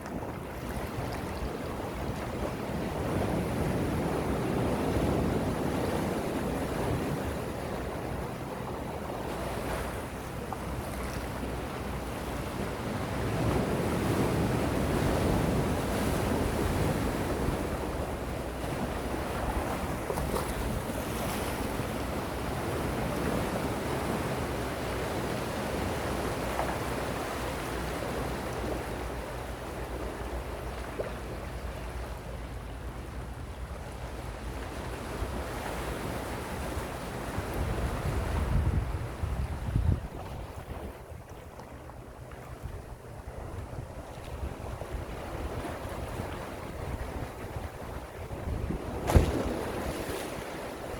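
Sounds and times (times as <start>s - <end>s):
sea waves washing in: 0.0s - 50.9s
wind rumbling on microphone: 0.0s - 50.9s.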